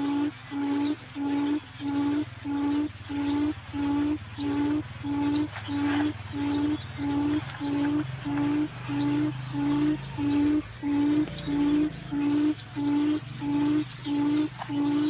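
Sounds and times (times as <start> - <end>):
low hooting quail call: 0.0 - 15.0.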